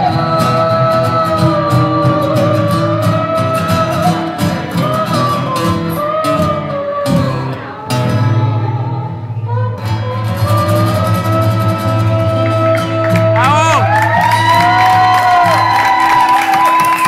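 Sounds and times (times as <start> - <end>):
strummed acoustic guitars: 0.0 - 17.0.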